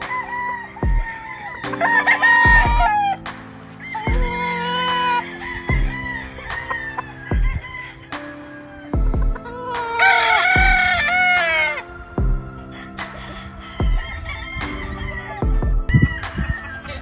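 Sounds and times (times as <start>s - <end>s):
music with deep slow beat: 0.0s - 16.8s
rooster crowing: 0.1s - 3.2s, 3.8s - 8.1s, 9.4s - 11.8s, 12.7s - 17.0s.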